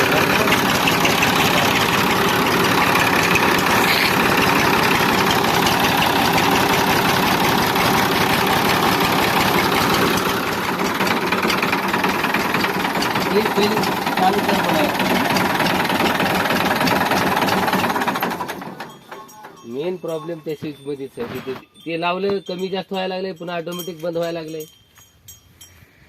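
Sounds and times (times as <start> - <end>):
tractor diesel engine idling: 0.0 - 21.7.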